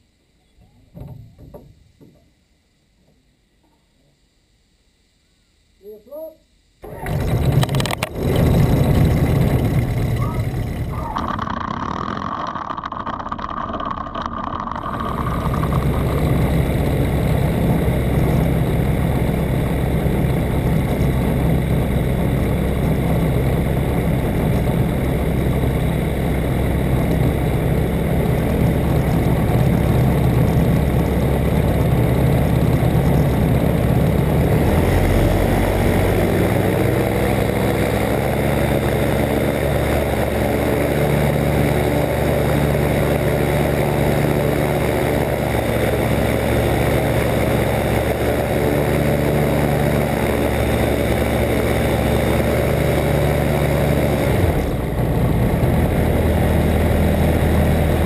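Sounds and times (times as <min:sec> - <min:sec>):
thin steady whine: 0:00.0 - 0:58.0
aircraft engine idling: 0:06.8 - 0:58.0.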